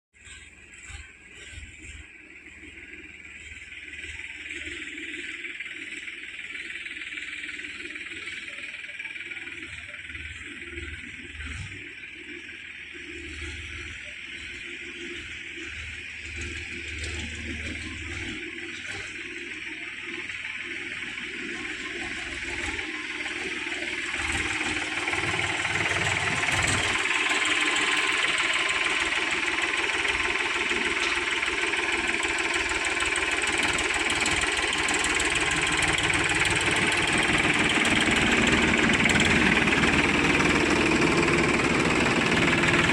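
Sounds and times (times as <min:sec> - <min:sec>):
heavy machinery diesel engine: 0:00.2 - 0:42.9.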